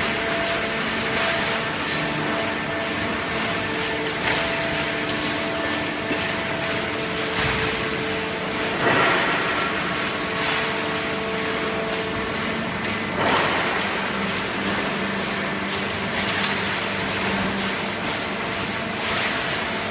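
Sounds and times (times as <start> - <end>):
baler motor and pump hum: 0.0 - 19.9.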